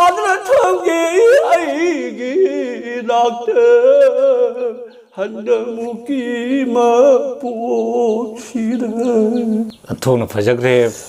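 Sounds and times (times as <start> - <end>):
elderly man chanting: 0.0 - 10.1.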